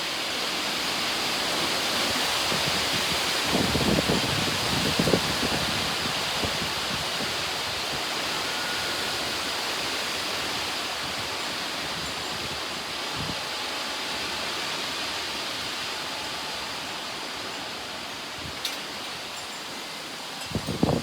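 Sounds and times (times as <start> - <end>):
strong wind gusts roaring: 0.6 - 19.3, 19.9 - 21.0.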